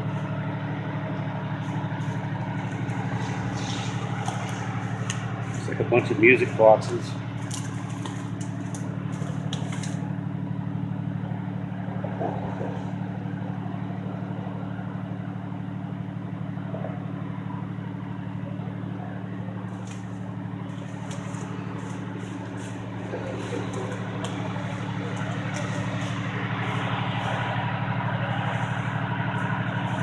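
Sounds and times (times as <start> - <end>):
large engine idling: 0.0 - 30.0.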